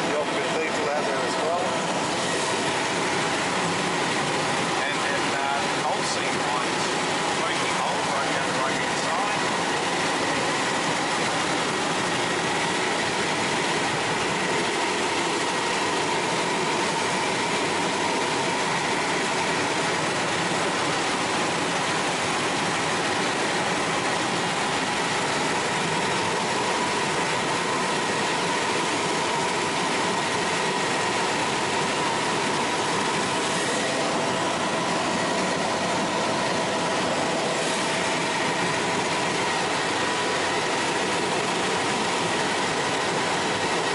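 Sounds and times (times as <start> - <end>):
helicopter rotor and engine drone: 0.0 - 43.9
high turbine whine: 0.0 - 43.9.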